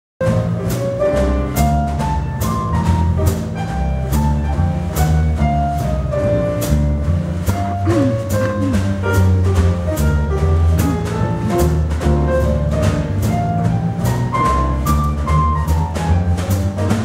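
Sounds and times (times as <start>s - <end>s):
drum hits: 0.2s - 17.0s
jazz big band playing: 0.2s - 17.0s.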